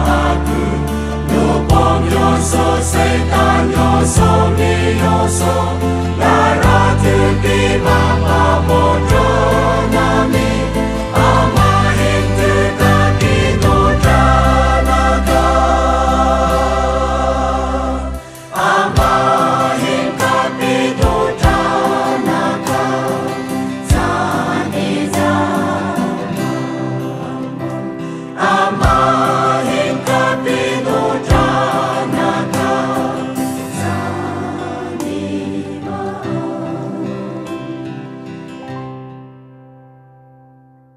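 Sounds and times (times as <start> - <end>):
backing music: 0.0 - 38.8
choir singing a hymn: 0.0 - 39.1.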